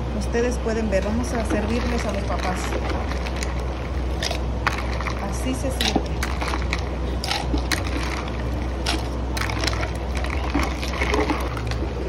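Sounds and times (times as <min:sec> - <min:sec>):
ice clinking against clay pot: 0:01.2 - 0:11.9.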